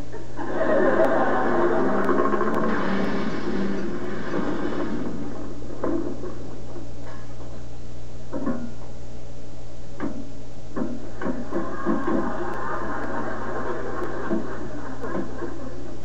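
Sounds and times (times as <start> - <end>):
television electrical hum and hiss: 0.0 - 16.0.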